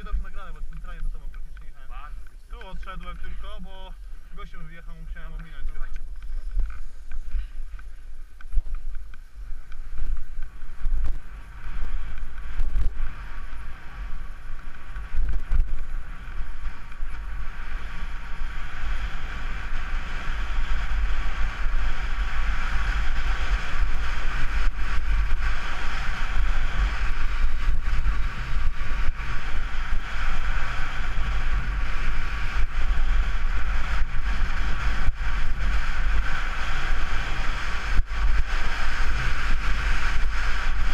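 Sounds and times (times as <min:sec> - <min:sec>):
skis hissing over snow: 0:00.0 - 0:40.9
wind buffeting microphone: 0:00.0 - 0:40.9.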